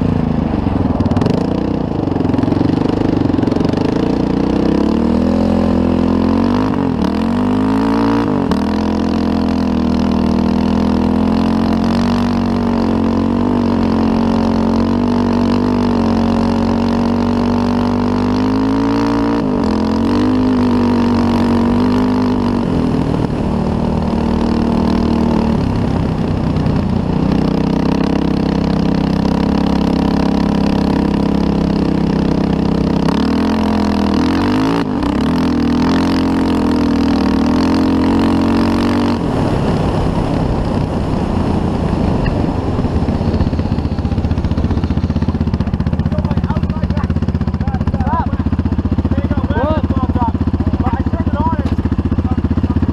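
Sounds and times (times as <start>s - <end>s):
off-road vehicle engine: 0.0s - 52.9s.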